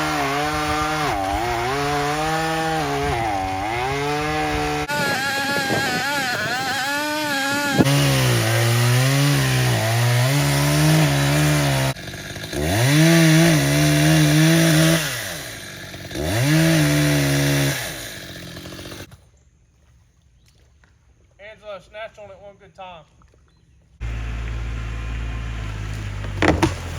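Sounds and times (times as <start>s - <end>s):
chainsaw cutting wood: 0.0s - 19.2s, 24.0s - 26.9s.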